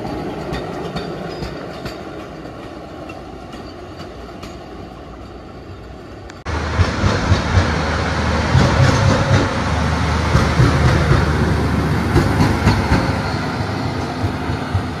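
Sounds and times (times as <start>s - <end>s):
train wagons rumbling past: 0.0s - 15.0s.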